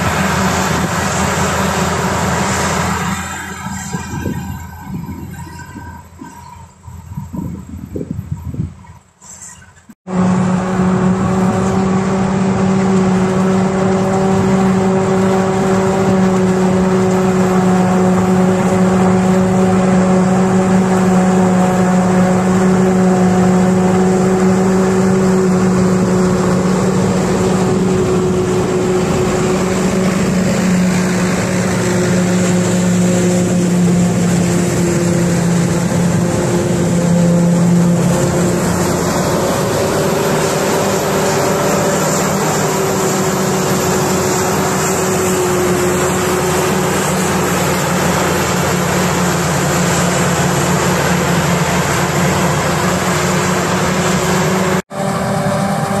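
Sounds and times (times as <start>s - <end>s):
diesel machinery droning: 0.0s - 56.0s.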